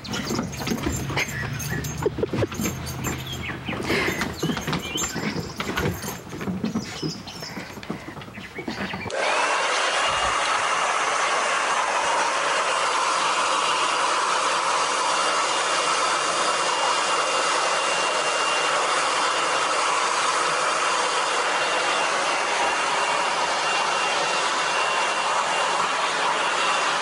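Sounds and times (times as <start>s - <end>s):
hair dryer blowing: 0.0s - 6.3s, 9.0s - 27.0s.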